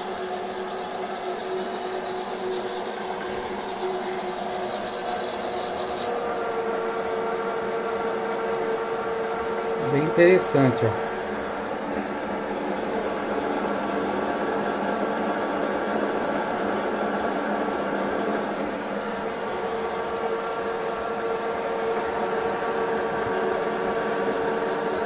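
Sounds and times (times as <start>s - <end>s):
lathe running with whine: 0.0s - 25.0s.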